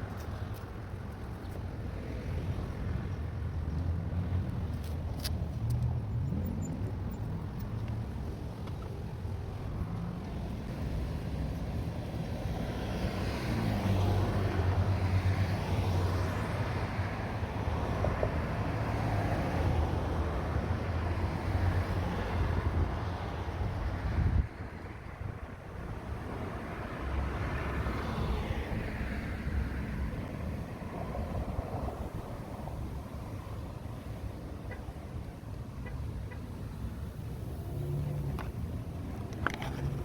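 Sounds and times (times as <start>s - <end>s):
low traffic rumble: 0.0s - 40.0s
vehicles passing by: 0.0s - 40.0s.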